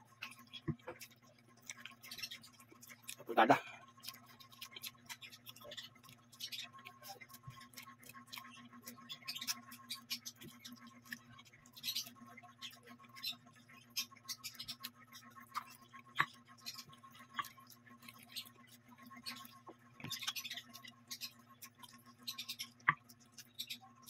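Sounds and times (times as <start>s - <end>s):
person chewing and smacking: 0.0s - 24.0s.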